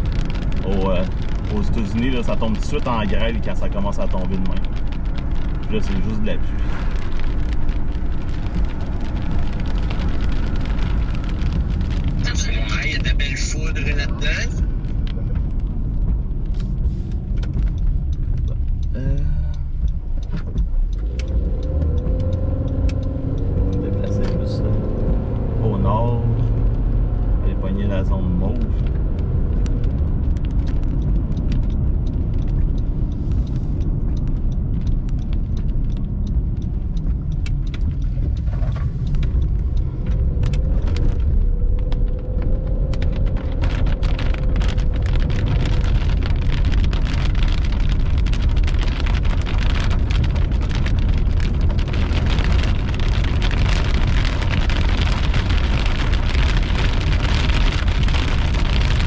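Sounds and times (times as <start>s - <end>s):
rain falling on a car: 0.0s - 59.0s
steady low rumble: 0.0s - 59.0s.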